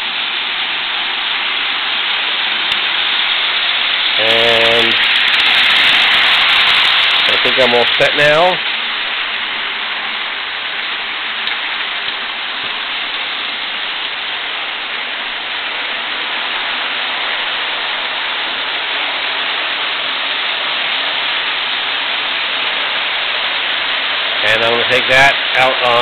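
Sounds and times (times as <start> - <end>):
model trains whirring on rails: 0.0 - 26.0.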